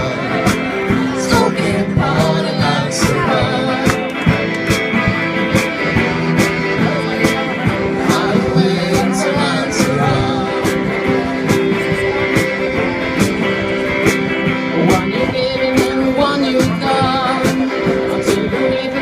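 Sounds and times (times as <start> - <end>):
guitars: 0.0 - 19.0
steady drum beat: 0.0 - 19.0.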